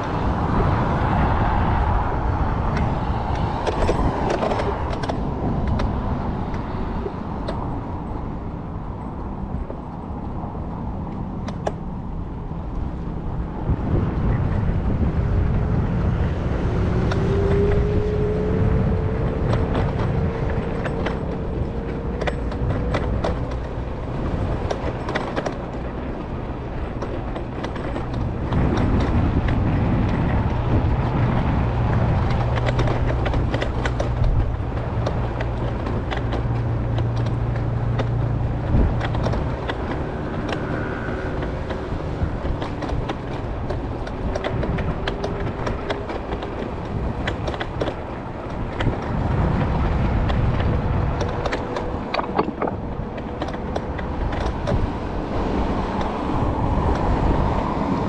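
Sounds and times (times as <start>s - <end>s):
wheel clicks and rattles: 0.0s - 10.4s, 14.6s - 58.0s
scooter wheels rolling on pavement: 0.0s - 58.0s.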